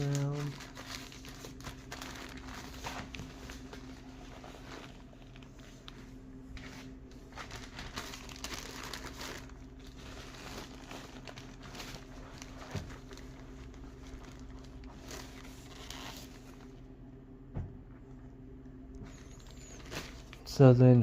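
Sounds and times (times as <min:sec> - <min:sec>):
plastic sheeting crinkling: 0:00.0 - 0:16.8, 0:19.0 - 0:20.6
steady low hum: 0:00.0 - 0:21.0.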